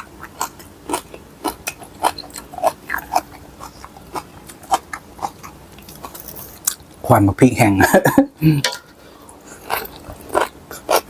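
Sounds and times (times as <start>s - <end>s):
person chewing food: 0.0s - 7.0s, 8.6s - 11.0s.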